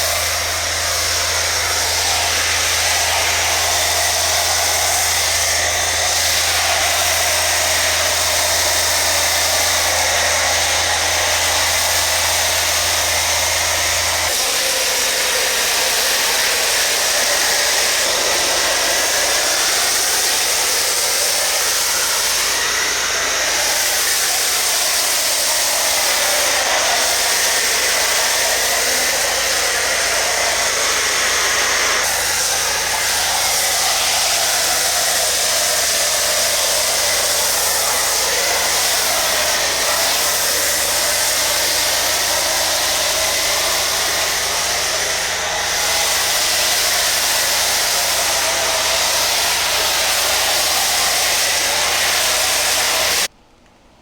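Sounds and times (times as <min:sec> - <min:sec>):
machine motor rushing: 0:00.0 - 0:53.3.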